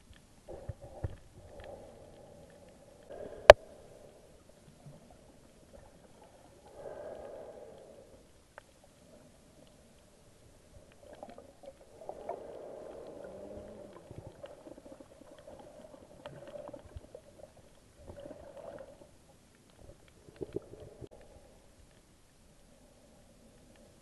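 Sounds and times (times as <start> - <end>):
water swishing and bubbling: 0.0 - 24.0.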